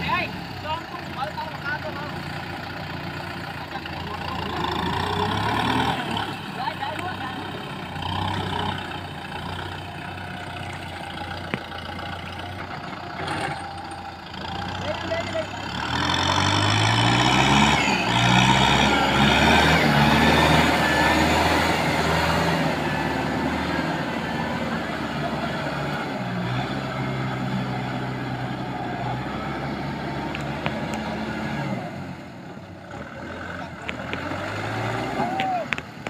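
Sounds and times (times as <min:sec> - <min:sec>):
tractor diesel engine: 0:00.0 - 0:36.0.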